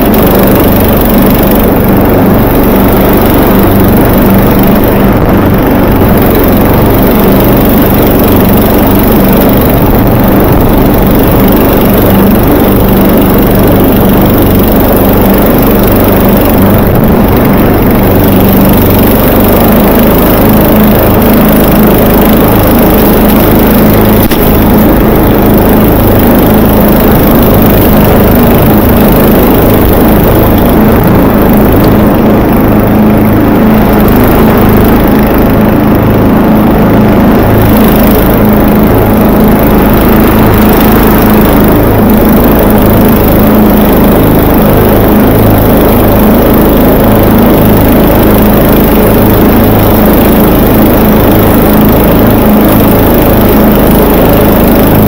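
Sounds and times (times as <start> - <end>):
riding lawn mower engine running: 0.0 - 55.0.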